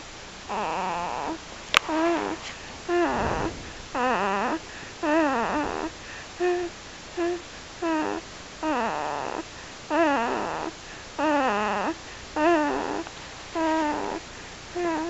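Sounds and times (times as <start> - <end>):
baby snoring with whining voice: 0.5 - 15.0.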